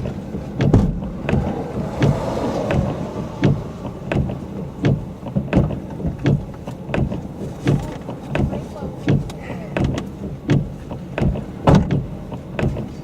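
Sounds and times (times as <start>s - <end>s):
car road noise rumble: 0.0s - 13.0s
short thumps: 0.0s - 13.0s.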